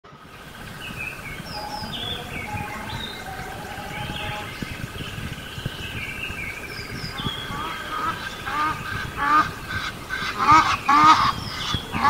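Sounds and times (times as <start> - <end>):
birds chirping and calling: 0.1 - 12.0.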